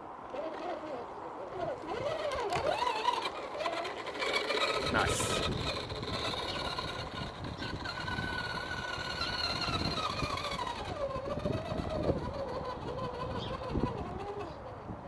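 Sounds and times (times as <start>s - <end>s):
electric motor and gear whine: 1.6s - 14.6s.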